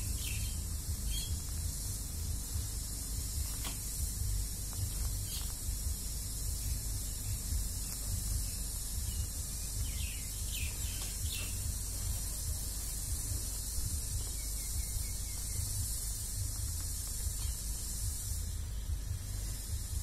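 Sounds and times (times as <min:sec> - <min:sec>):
low rumble: 0:00.0 - 0:20.0
steady hiss: 0:00.0 - 0:20.0.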